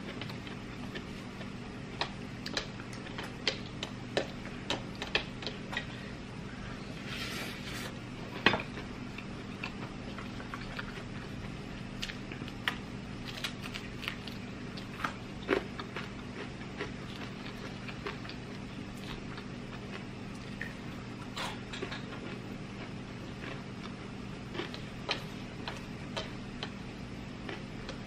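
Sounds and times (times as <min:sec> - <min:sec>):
person chewing food: 0:00.0 - 0:06.1, 0:08.2 - 0:28.0
steady low hum: 0:00.0 - 0:28.0.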